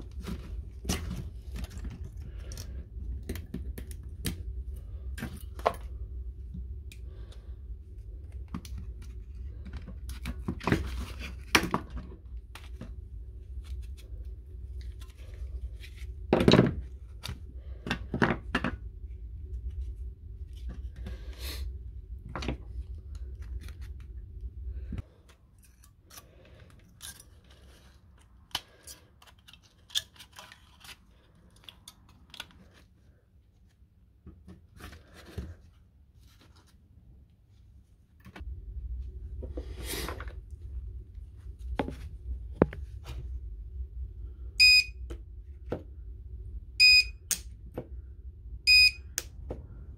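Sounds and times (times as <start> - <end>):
low background hum: 0.0 - 49.9.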